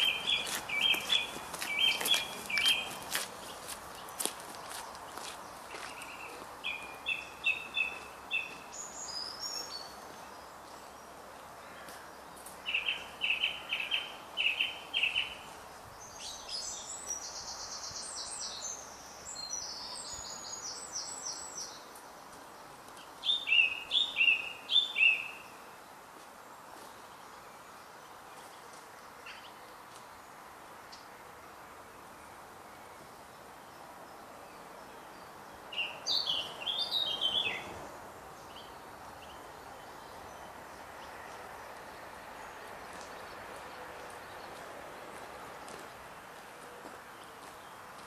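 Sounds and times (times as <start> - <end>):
songbirds chirping: 0.0 - 48.0.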